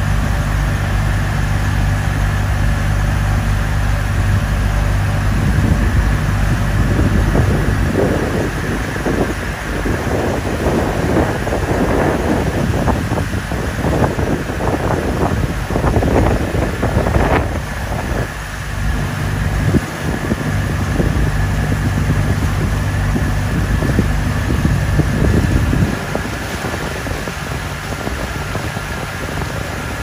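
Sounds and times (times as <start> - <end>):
boat engine humming: 0.0 - 30.0
wind buffeting microphone: 0.0 - 30.0.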